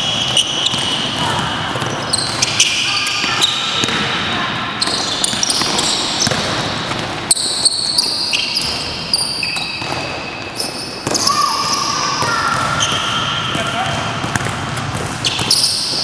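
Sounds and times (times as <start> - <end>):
basketball bouncing: 0.0 - 16.0
sneakers squeaking on floor: 0.0 - 16.0.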